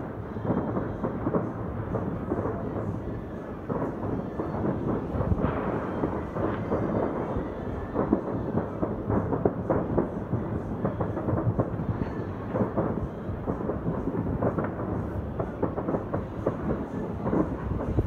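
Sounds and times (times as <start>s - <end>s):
distant fireworks bangs and crackles: 0.0s - 18.0s.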